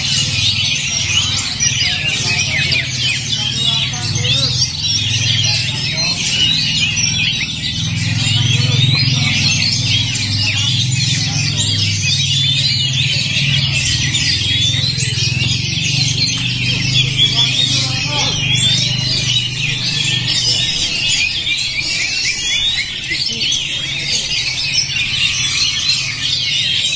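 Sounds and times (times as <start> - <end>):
magpie-robins singing: 0.0 - 26.9.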